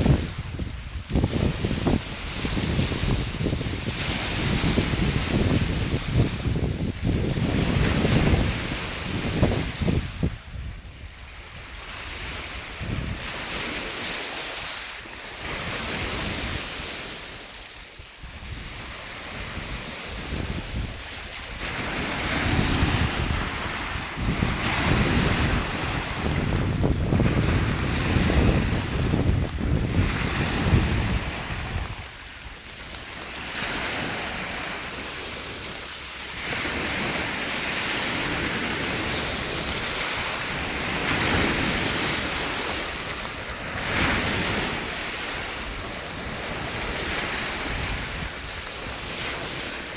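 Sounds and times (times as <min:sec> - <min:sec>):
waves washing in: 0:00.0 - 0:49.9
wind buffeting microphone: 0:00.0 - 0:49.9.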